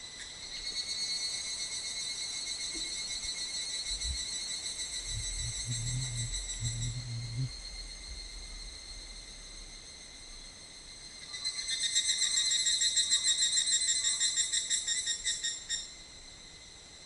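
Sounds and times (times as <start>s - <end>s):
faint high insect drone: 0.0s - 17.0s
insect song of high-pitched pulses: 0.0s - 17.0s.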